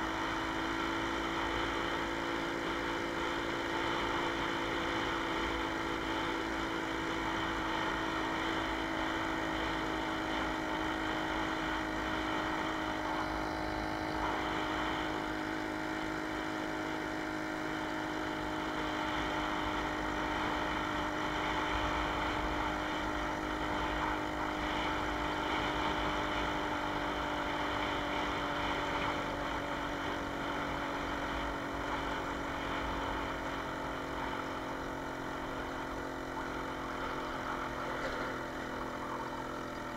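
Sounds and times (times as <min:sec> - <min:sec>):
moped engine running: 0:00.0 - 0:39.9.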